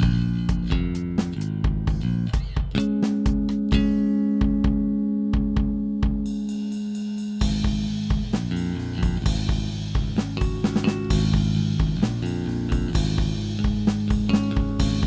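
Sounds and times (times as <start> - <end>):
electric bass groove: 0.0 - 6.7, 7.4 - 15.0
drum kit beat: 0.0 - 15.0.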